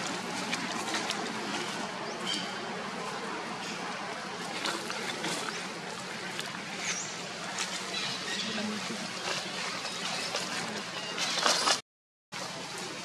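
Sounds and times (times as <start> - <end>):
steady outdoor hiss: 0.0 - 11.8.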